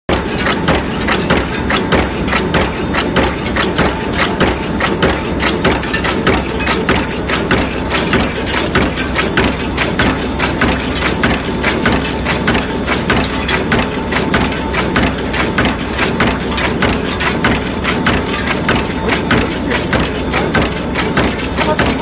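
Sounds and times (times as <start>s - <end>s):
forging machine clattering: 0.1s - 22.0s
low mechanical hum: 0.1s - 22.0s.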